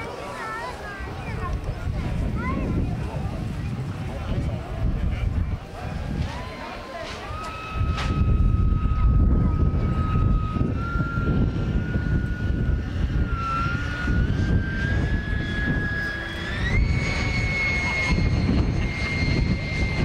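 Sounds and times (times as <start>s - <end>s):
model jet engine whine: 0.0s - 20.0s
low rumble: 1.1s - 20.0s.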